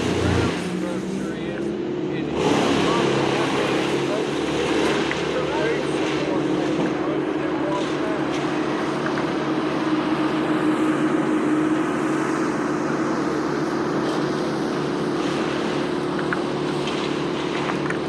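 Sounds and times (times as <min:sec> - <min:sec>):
machinery engine droning: 0:00.0 - 0:18.0.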